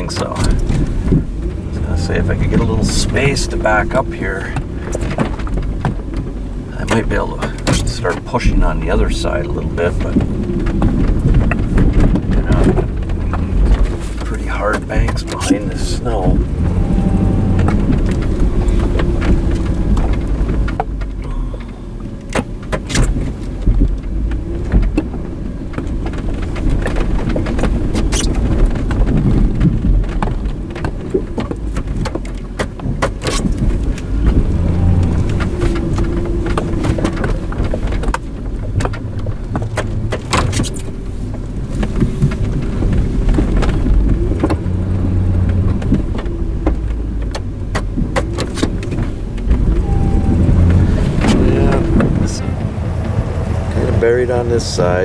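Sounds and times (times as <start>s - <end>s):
scattered clicks and knocks: 0.0s - 49.8s
truck engine running under load: 0.0s - 55.0s.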